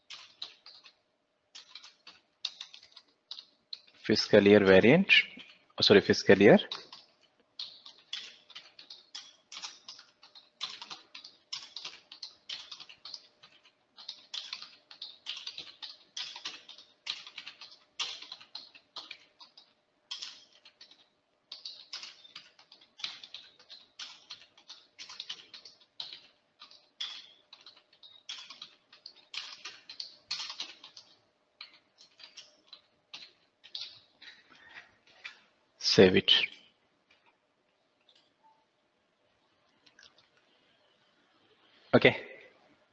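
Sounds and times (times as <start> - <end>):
computer keyboard typing: 0.0 - 35.4.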